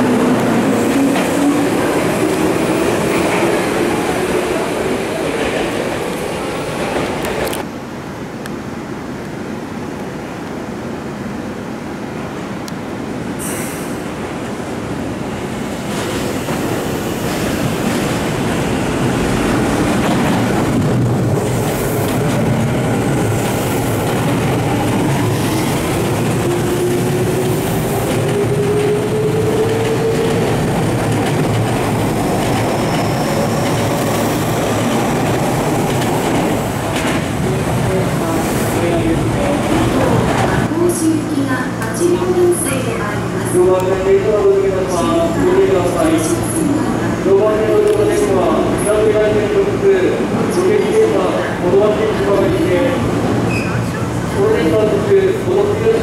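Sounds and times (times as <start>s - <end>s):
train wheels rumbling on track: 0.0s - 10.6s, 11.5s - 56.0s.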